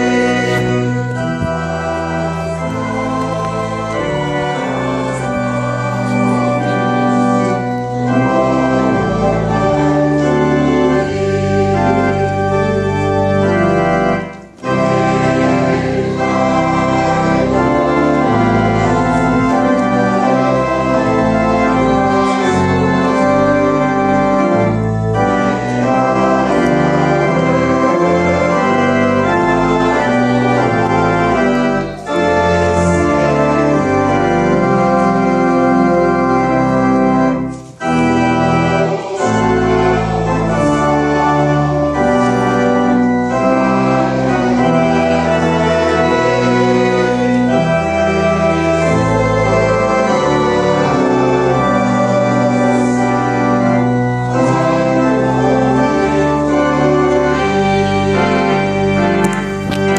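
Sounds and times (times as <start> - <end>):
church organ sustained chords: 0.0 - 59.9.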